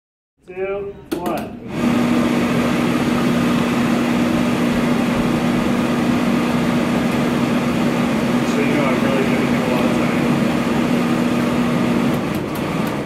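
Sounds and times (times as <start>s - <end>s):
air blower rushing and humming: 1.2s - 13.0s.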